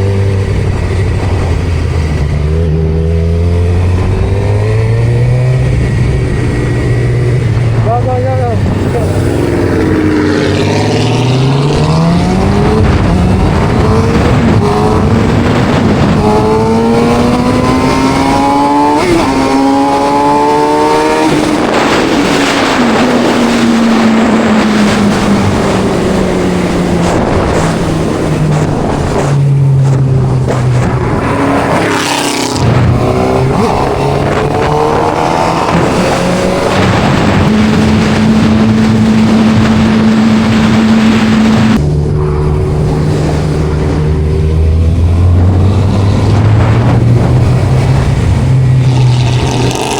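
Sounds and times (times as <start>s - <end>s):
motorcycle engine accelerating: 0.0s - 49.9s
wind rush: 0.0s - 49.9s.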